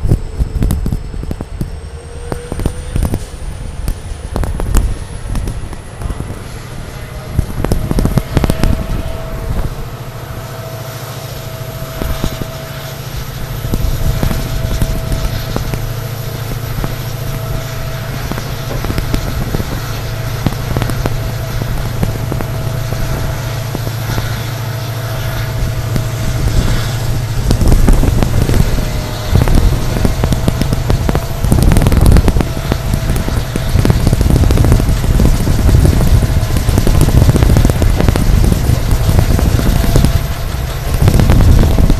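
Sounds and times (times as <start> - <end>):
diesel locomotive engine humming: 0.0 - 41.9
thin steady whine: 0.0 - 41.9
train running noise: 0.0 - 41.9.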